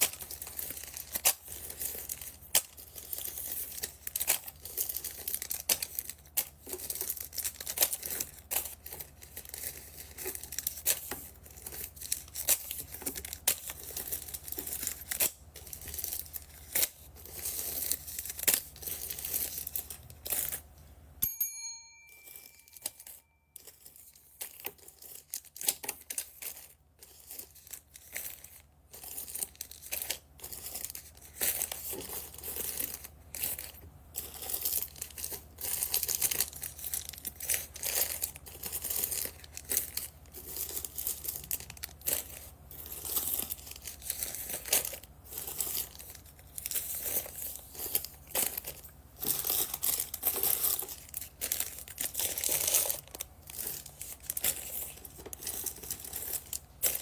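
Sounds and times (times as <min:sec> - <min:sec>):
plastic bags crinkling: 0:00.0 - 0:21.0, 0:22.3 - 0:57.0.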